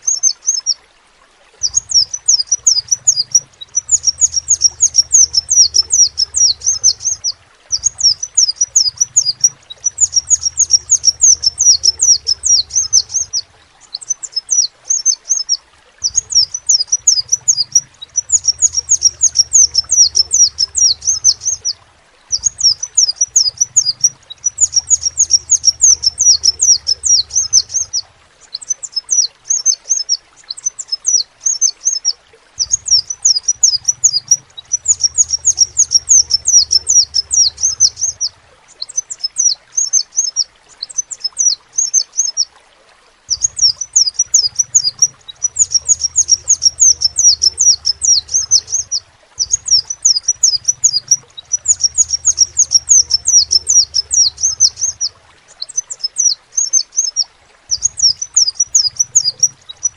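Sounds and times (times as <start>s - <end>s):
sunbird twittering trills: 0.0s - 0.8s, 1.6s - 42.5s, 43.3s - 59.9s.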